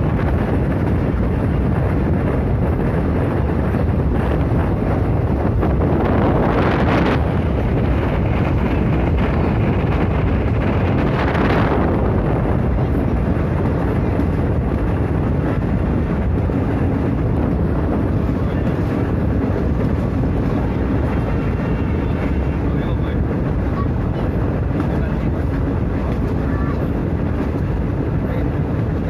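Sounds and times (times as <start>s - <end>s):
moving train running noise: 0.0s - 29.0s
wind buffeting microphone: 0.0s - 29.0s.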